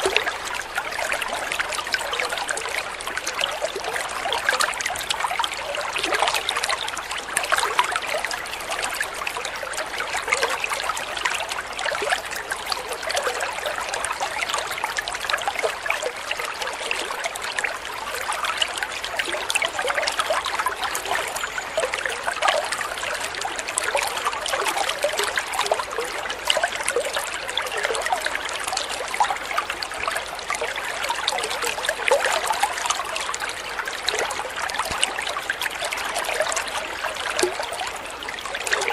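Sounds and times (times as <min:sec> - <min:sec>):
liquid trickling and gurgling: 0:00.0 - 0:38.9.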